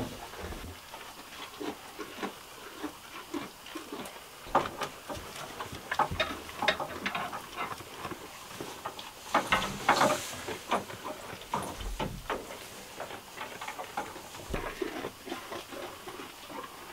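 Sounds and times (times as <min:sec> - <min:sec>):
goat chewing hay: 0:00.0 - 0:16.9.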